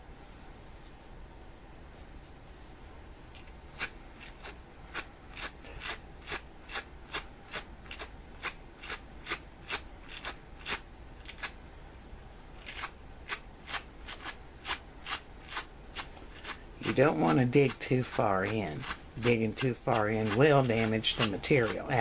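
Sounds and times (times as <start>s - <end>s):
wire brush rasping on fleece: 3.4s - 11.6s, 12.6s - 22.0s.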